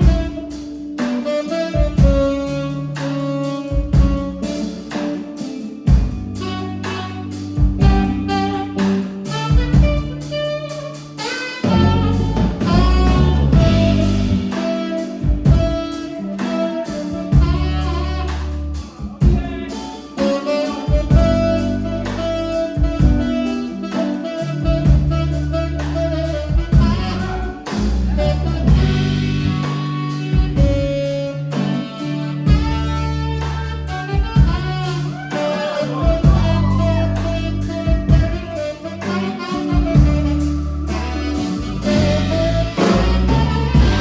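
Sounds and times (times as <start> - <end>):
instrumental band music: 0.0 - 44.0.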